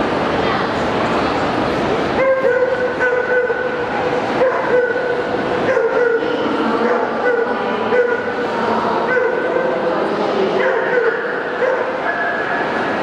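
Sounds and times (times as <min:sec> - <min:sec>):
crowd hubbub in a hall: 0:00.0 - 0:13.0.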